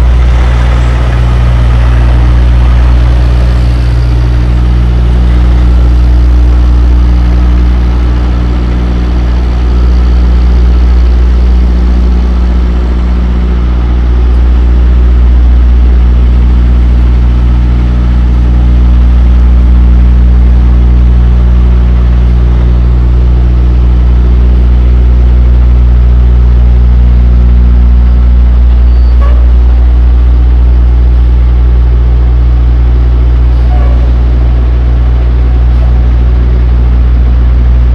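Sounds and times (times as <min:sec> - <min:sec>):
diesel truck engine idling: 0:00.0 - 0:37.9.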